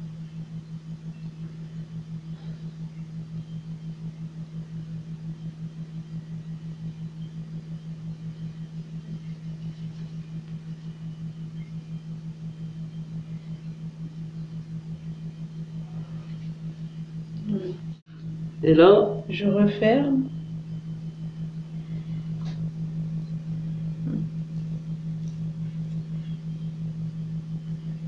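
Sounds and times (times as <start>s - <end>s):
steady low pulsing hum: 0.0s - 28.0s.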